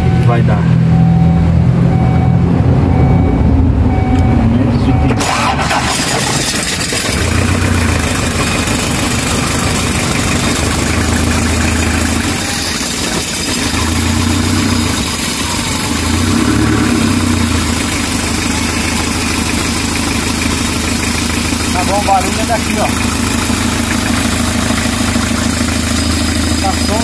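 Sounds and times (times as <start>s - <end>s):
engine idling: 2.9s - 27.0s.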